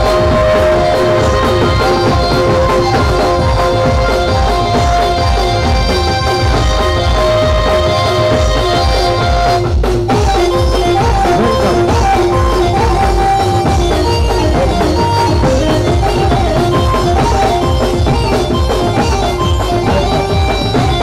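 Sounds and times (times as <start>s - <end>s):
loud dance music: 0.0s - 21.0s.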